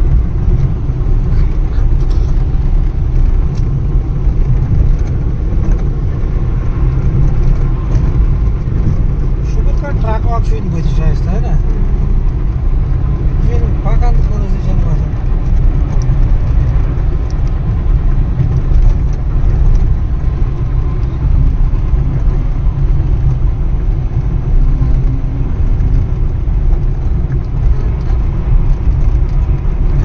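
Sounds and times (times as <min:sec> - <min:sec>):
vehicle rumbling: 0:00.0 - 0:30.0.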